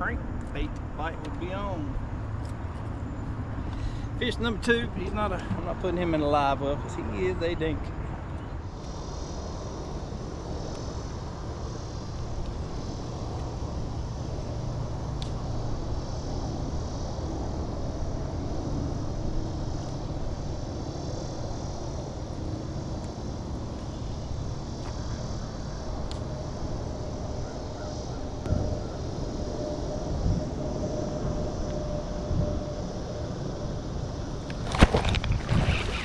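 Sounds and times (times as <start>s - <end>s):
faint high pulsing buzz: 0.0s - 36.0s
wind rumble on microphone: 0.0s - 36.0s.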